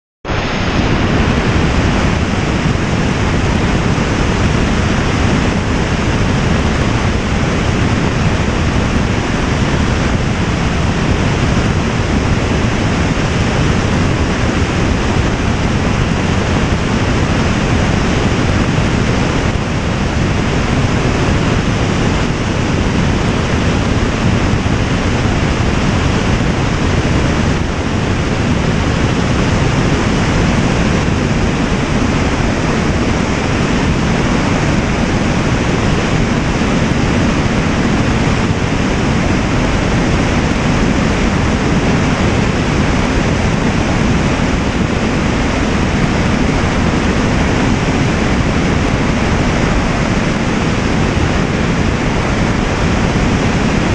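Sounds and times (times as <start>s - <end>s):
wind on microphone: 0.3s - 53.9s.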